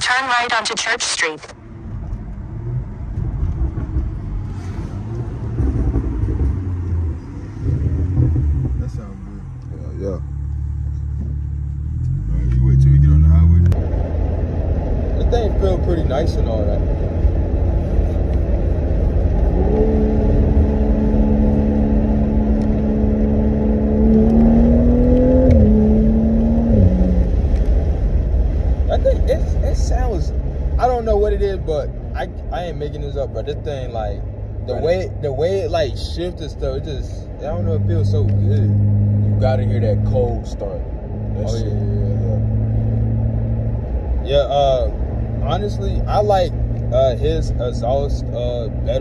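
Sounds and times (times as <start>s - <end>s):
car exhaust deep note: 1.8s - 49.0s.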